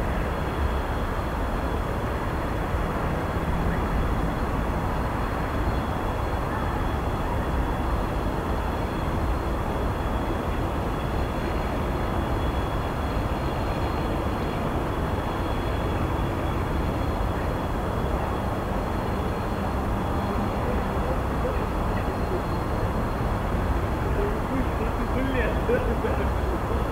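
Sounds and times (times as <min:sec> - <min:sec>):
outdoor rumble and hiss: 0:00.0 - 0:26.9
faint high steady tone: 0:03.5 - 0:26.9.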